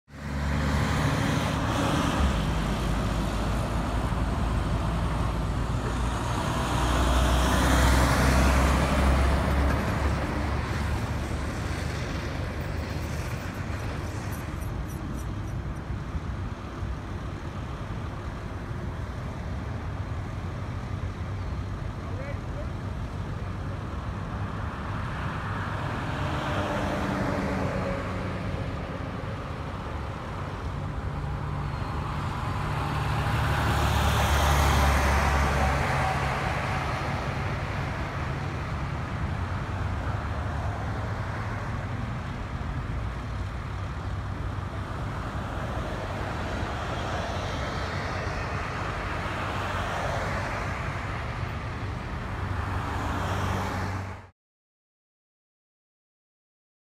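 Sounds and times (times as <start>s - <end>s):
road traffic rumble: 0.1s - 54.3s.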